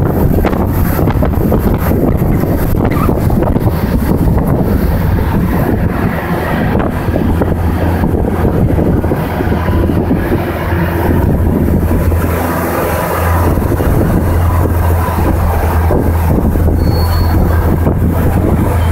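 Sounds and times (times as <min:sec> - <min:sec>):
ship engine droning: 0:00.0 - 0:18.9
wind blowing across microphone: 0:00.0 - 0:18.9.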